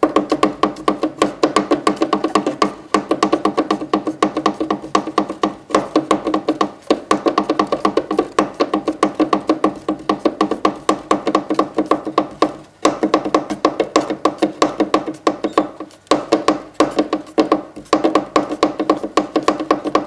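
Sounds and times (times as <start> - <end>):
finger tapping on hard surface: 0.0 - 20.0.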